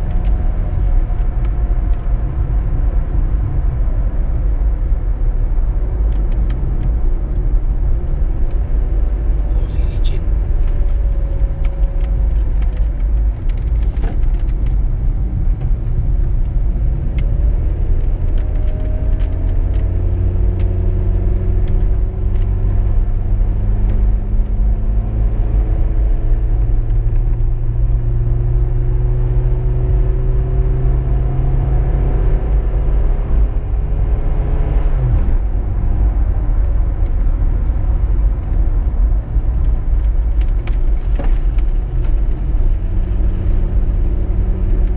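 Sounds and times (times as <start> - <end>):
car engine: 0.0 - 44.9
road rumble: 0.0 - 44.9.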